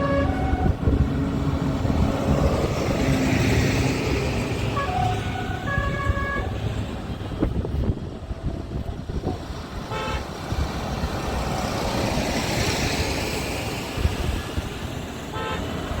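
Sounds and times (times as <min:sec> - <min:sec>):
tractors driving past: 0:00.0 - 0:16.0.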